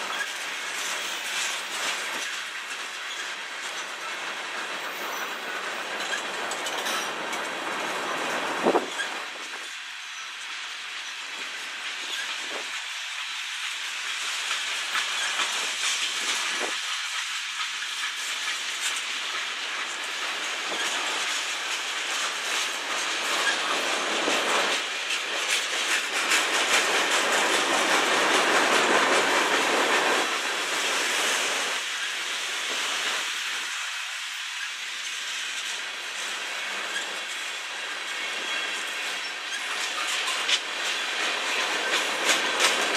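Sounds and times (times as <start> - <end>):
freight train wheels rumbling and clacking: 0.0 - 42.9.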